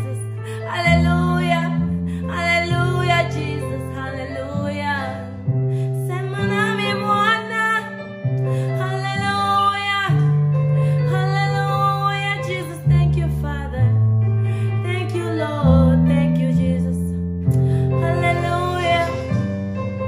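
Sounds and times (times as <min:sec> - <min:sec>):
woman singing slow worship song: 0:00.0 - 0:13.9, 0:14.5 - 0:19.6
instrumental backing of held chords: 0:00.0 - 0:20.0.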